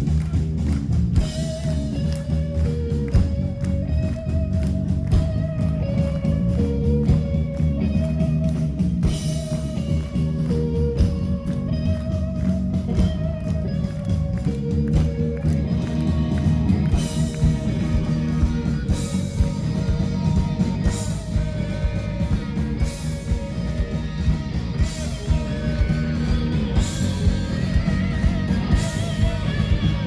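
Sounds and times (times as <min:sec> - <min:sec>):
live band music: 0:00.0 - 0:30.0.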